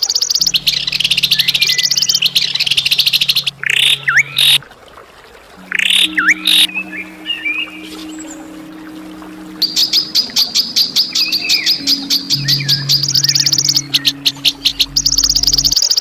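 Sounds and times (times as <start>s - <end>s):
songbird calling: 0.0s - 4.6s, 5.6s - 16.0s
low music drone: 0.4s - 15.9s.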